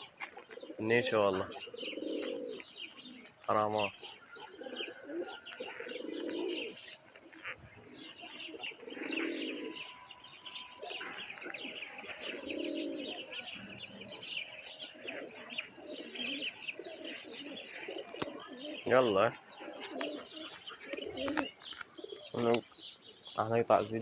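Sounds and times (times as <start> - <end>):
high-pitched bird chirping: 0.0 - 24.0
pigeons cooing: 0.0 - 24.0.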